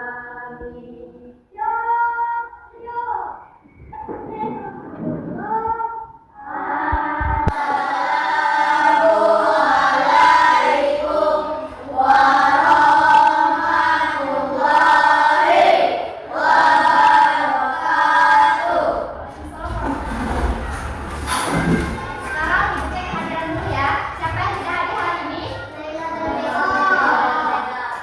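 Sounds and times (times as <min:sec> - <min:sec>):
children singing in unison: 0:00.0 - 0:02.8, 0:04.9 - 0:28.0.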